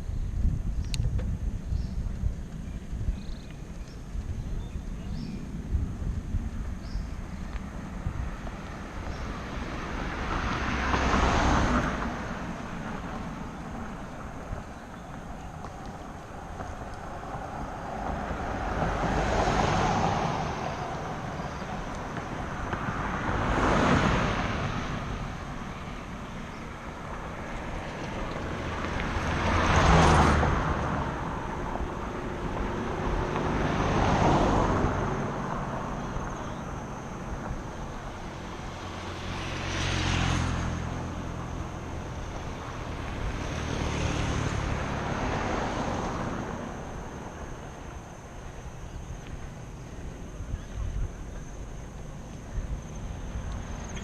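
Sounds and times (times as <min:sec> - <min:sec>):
steady road rumble: 0:00.0 - 0:54.0
vehicles passing close: 0:00.0 - 0:54.0.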